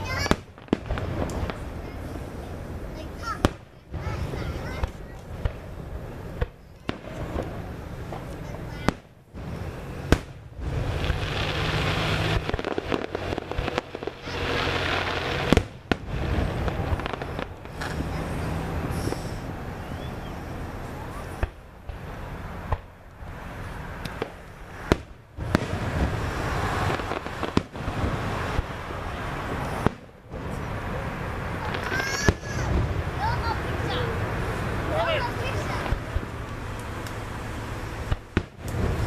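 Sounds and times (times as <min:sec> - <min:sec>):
continuous background noise: 0:00.0 - 0:39.0
fireworks bursting with bangs: 0:00.0 - 0:39.0.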